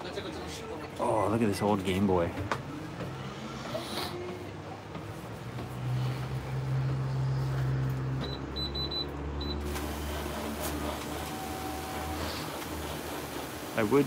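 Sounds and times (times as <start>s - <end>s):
low shop hum: 0.0s - 14.0s.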